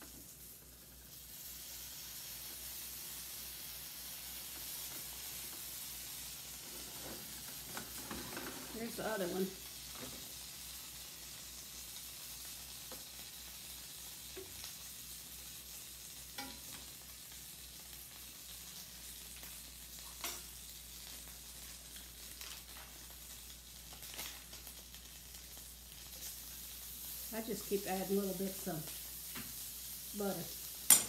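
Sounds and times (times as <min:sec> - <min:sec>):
butter sizzling in a skillet: 0:00.0 - 0:31.0.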